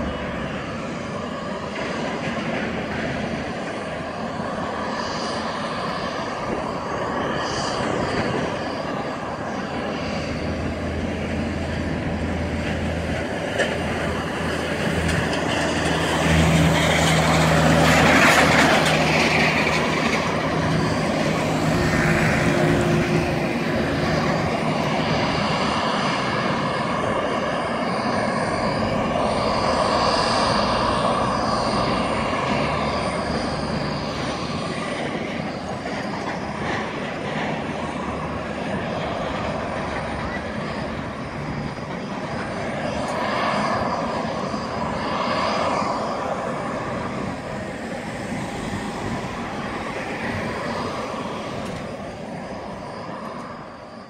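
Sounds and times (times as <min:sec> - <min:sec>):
airliner whining: 0:00.0 - 0:54.0
low engine drone: 0:00.0 - 0:54.0.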